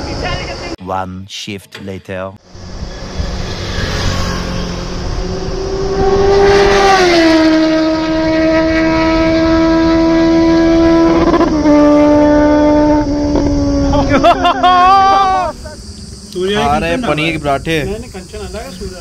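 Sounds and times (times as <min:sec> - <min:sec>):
motorcycle engine whine: 0:02.4 - 0:19.0.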